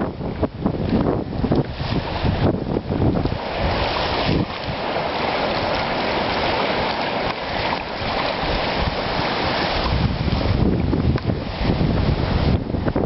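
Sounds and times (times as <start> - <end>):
choppy waves: 0.0 - 13.0
strong wind: 0.0 - 13.0
wind buffeting microphone: 0.0 - 13.0.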